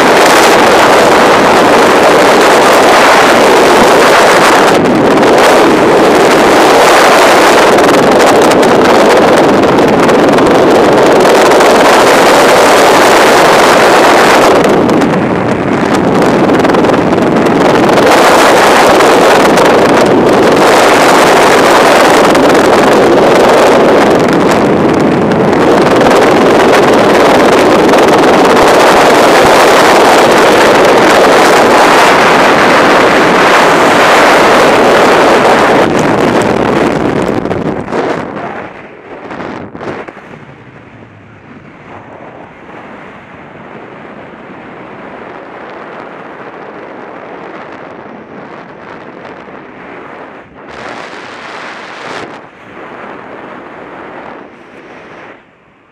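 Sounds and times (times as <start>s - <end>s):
freefall wind buffeting microphone: 0.0s - 55.9s.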